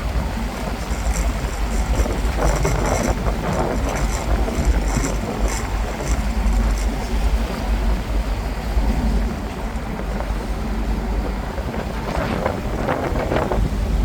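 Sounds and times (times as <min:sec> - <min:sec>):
boat engine rumble: 0:00.0 - 0:14.0
wind noise on microphone: 0:00.0 - 0:14.0.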